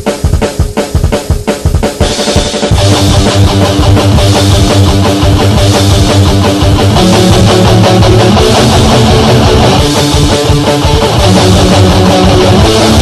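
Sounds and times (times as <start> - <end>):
punk rock backing track: 0.0 - 13.0.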